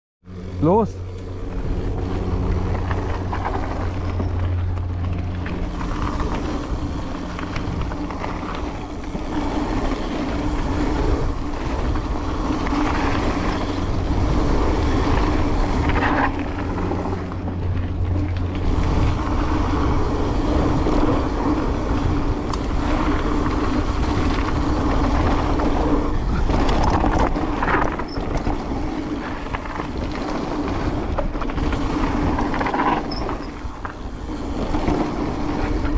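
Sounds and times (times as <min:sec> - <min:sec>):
vehicle running drone: 0:00.2 - 0:35.9
uneven rough noise: 0:00.3 - 0:35.9.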